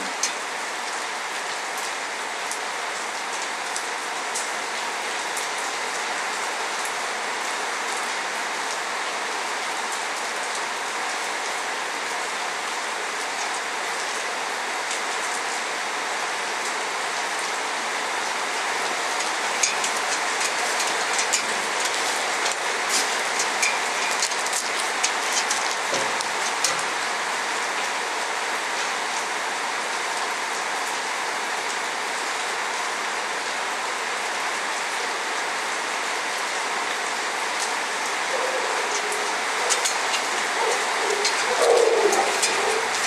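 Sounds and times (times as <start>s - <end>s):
raindrops ticking and tapping: 0.0s - 33.8s, 34.4s - 43.0s
steady rain hiss: 0.0s - 43.0s.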